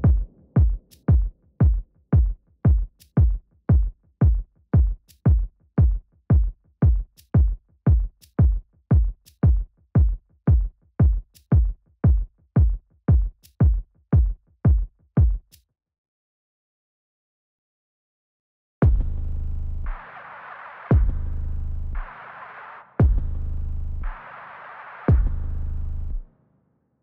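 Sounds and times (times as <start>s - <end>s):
electronic music with kick drum: 0.0s - 15.6s, 18.8s - 22.4s, 23.0s - 26.2s.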